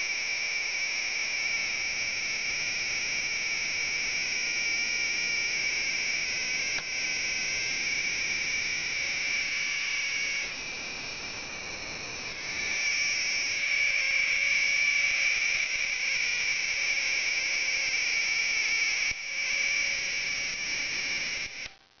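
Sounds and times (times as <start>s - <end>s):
high-pitched electronic whine: 0.0s - 22.0s
oscilloscope hiss: 0.0s - 22.0s.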